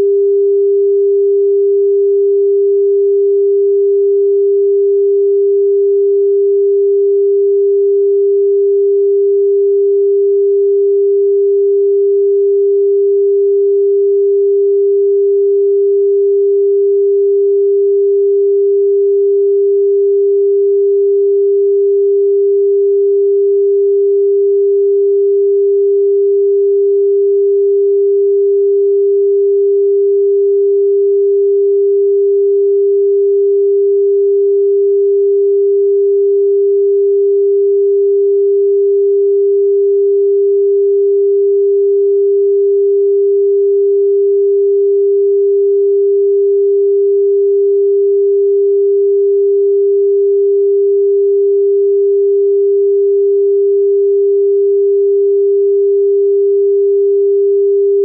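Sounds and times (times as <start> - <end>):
steady pure sine tone: 0.0 - 58.0.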